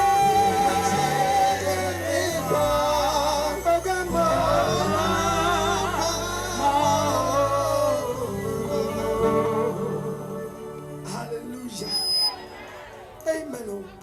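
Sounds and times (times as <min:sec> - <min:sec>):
gospel singing with band: 0:00.0 - 0:14.0.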